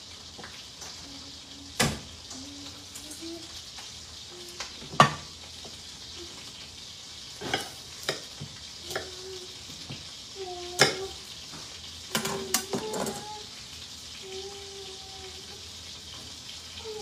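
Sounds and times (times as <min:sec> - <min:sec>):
butter sizzling in a pan: 0:00.0 - 0:17.0.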